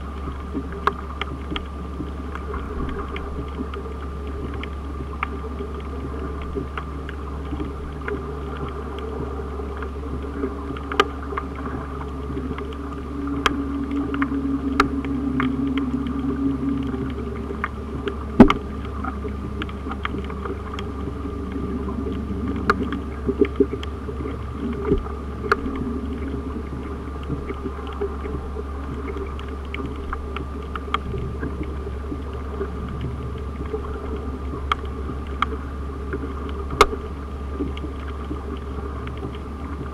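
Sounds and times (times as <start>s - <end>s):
low murmur: 0.0s - 39.9s
sharp clicks and crackles: 0.0s - 39.9s
underwater low hum: 0.0s - 39.9s.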